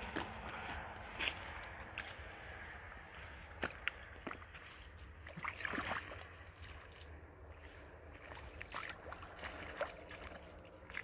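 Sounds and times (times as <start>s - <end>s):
boots wading through water: 0.0s - 11.0s.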